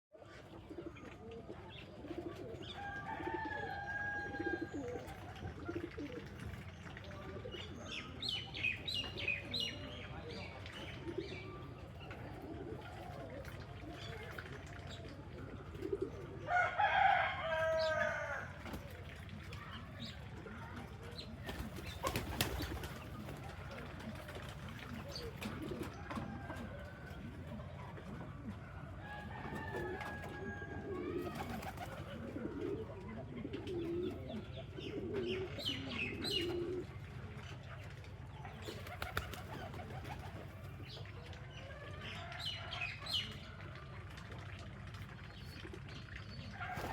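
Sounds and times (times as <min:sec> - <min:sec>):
pigeons cooing: 0:00.2 - 0:16.9, 0:17.6 - 0:41.9.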